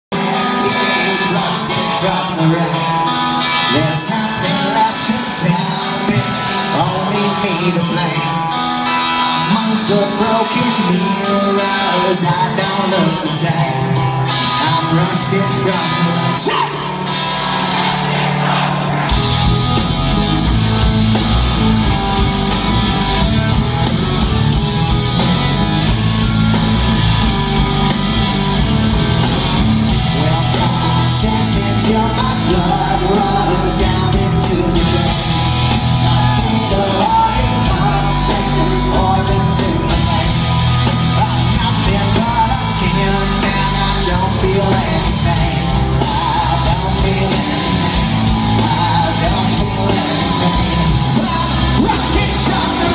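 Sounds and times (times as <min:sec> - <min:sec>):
person singing: 0:00.0 - 0:20.9, 0:21.5 - 0:52.9
rock song: 0:00.0 - 0:52.9.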